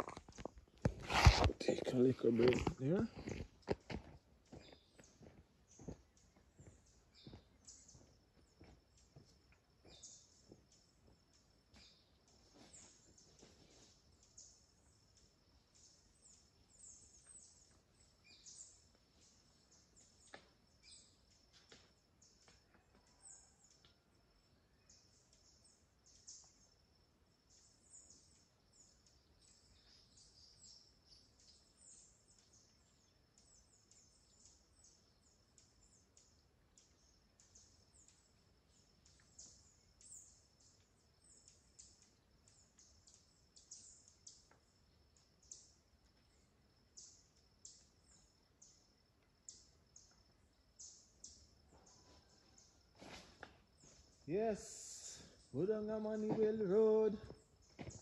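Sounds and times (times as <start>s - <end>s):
faint birds chirping: 0.0s - 58.0s.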